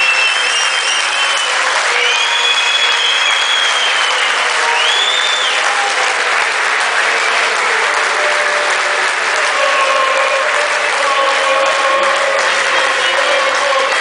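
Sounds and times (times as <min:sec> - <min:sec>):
large audience applauding: 0:00.0 - 0:14.0.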